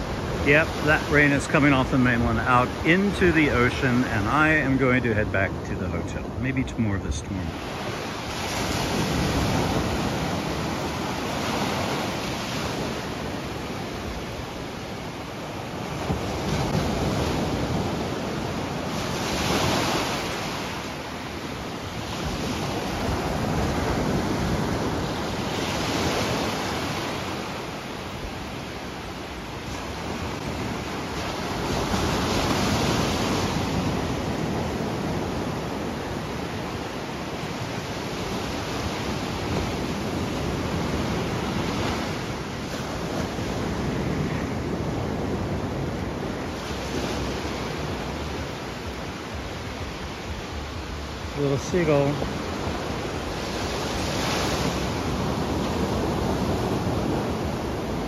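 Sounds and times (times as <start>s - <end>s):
small waves breaking on sand: 0.0s - 58.0s.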